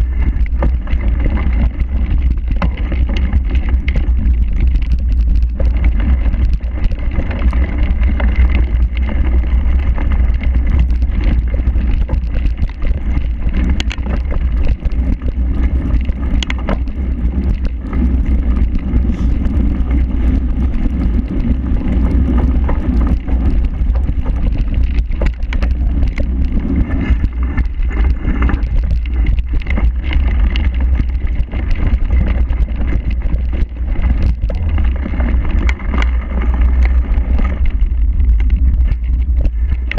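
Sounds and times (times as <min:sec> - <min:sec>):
bike rattling: 0:00.0 - 0:39.9
bike tyre noise: 0:00.0 - 0:39.9
wind rumble on microphone: 0:00.0 - 0:39.9.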